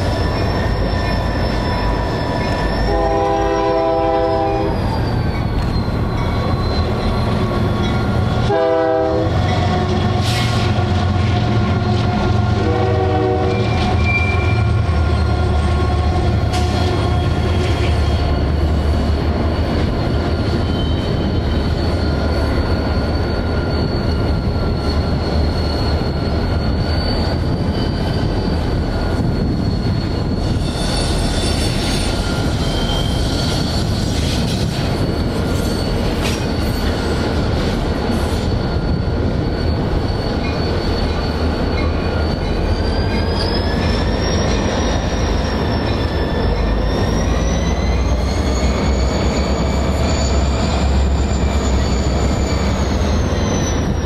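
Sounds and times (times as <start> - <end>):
train low rumble: 0.0 - 54.0
train wheels squealing on rails: 0.0 - 54.0.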